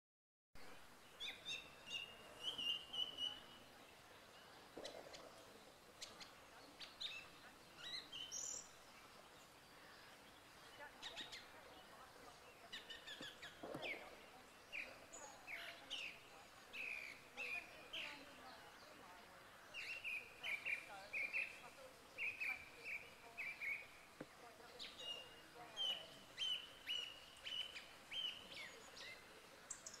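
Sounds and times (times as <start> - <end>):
faint background noise: 0.6 - 30.0
songbirds chirping and whistling: 0.6 - 30.0.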